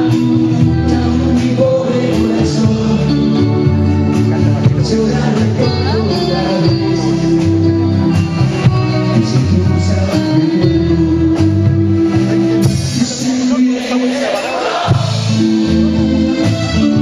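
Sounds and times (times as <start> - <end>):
live pop band playing: 0.0 - 17.0
man singing into a microphone: 0.0 - 17.0.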